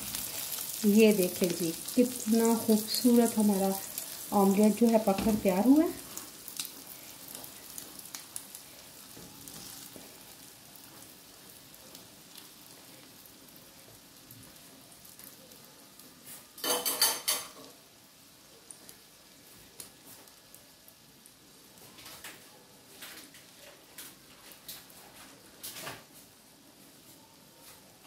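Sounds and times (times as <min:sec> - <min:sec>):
omelette sizzling with crackles: 0:00.0 - 0:28.0.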